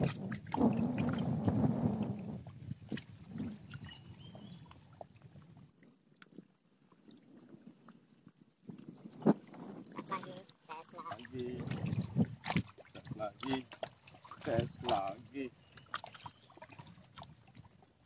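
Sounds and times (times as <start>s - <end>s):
small waves lapping: 0.0s - 18.0s.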